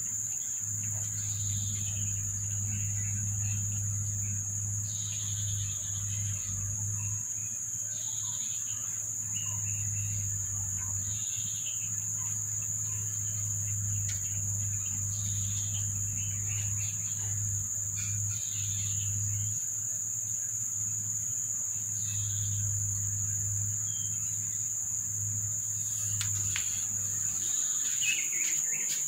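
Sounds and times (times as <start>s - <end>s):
high-pitched insect drone: 0.0s - 29.0s
low hum: 0.6s - 7.6s, 9.3s - 29.0s.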